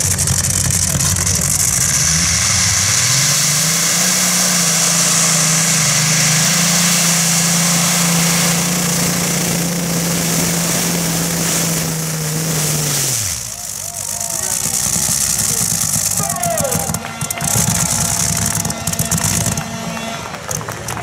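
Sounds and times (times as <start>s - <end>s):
tractor engine at full power: 0.0s - 21.0s.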